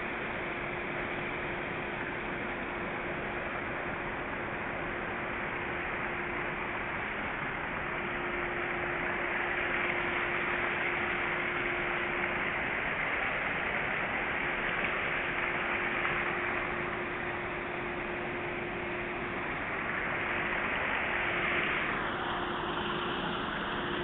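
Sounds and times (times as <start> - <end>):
faint steady hum: 0.0 - 24.0
steady hiss: 0.0 - 24.0.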